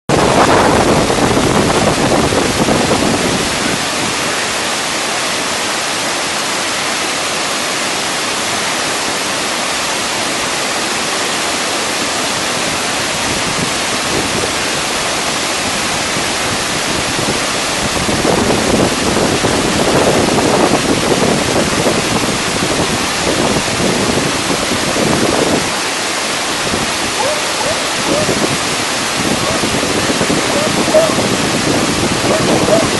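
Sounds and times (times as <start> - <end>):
waterfall pouring: 0.1 - 32.9.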